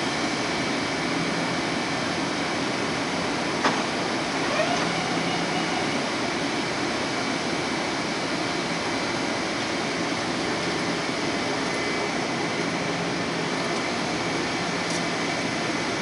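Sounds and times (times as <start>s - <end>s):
train air conditioning whir: 0.0s - 16.0s.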